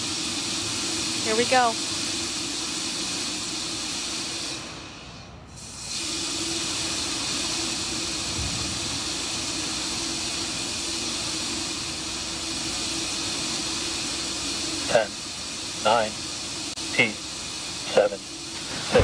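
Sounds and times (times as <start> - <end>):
rocket venting hiss: 0.0 - 19.0.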